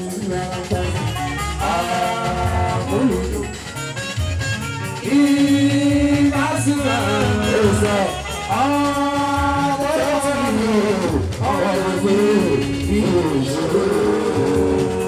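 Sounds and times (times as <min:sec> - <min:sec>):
person singing long notes: 0:00.0 - 0:03.8, 0:05.0 - 0:15.0
band accompaniment: 0:00.0 - 0:15.0.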